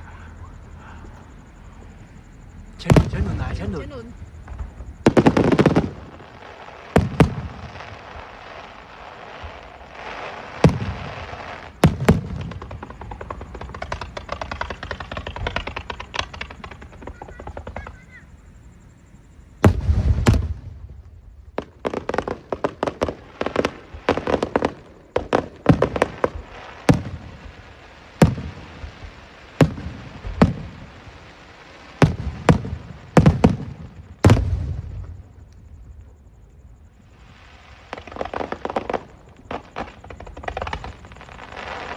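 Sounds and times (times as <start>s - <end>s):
fireworks bangs: 0.0s - 36.1s, 37.0s - 41.9s
fireworks crackling: 0.0s - 36.2s, 36.9s - 41.9s.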